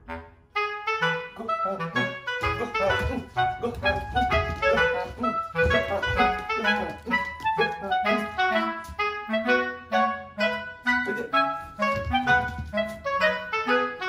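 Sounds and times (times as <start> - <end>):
quick melody over bass line: 1.0 - 13.9.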